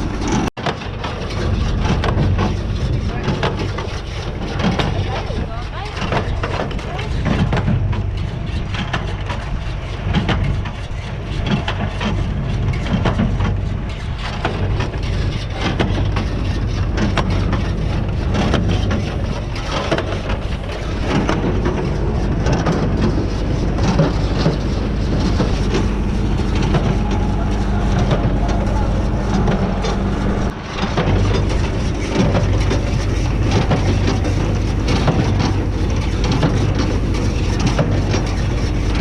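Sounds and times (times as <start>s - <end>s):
baler mechanism clattering: 0.0s - 39.0s
tractor engine running: 0.0s - 39.0s.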